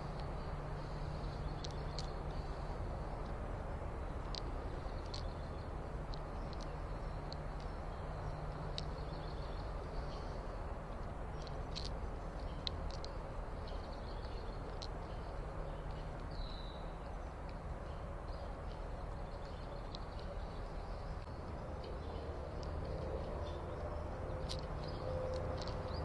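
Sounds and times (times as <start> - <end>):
outdoor low rumble and hiss: 0.0 - 26.0.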